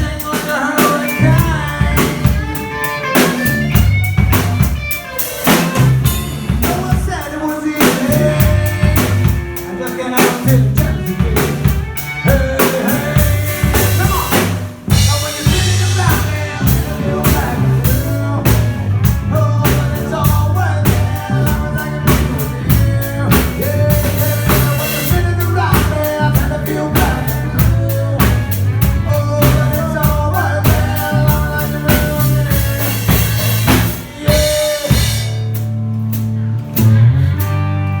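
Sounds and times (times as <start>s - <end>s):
bass drum and rimshots: 0.0s - 38.0s
live band playing: 0.0s - 38.0s.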